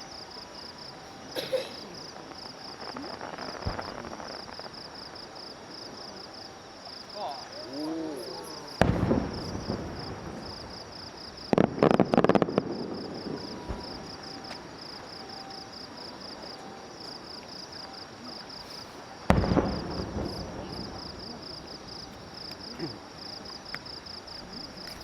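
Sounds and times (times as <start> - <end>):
insects chirping: 0.0 - 25.0
fireworks bursting: 0.7 - 25.0.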